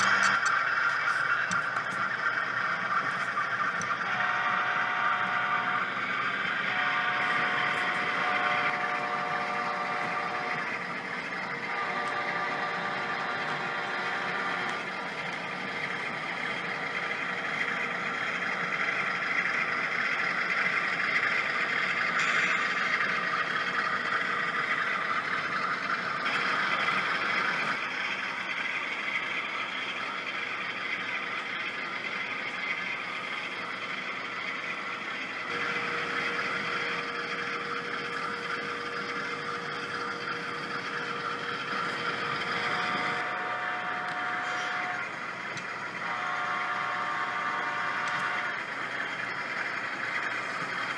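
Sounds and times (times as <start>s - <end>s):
model train diesel engine drone: 0.0s - 50.9s
model train rolling on track: 0.0s - 50.9s.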